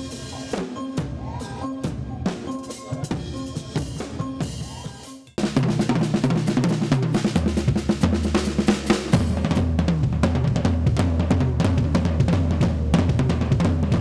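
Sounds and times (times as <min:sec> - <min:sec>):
drum kit playing: 0:00.0 - 0:14.0.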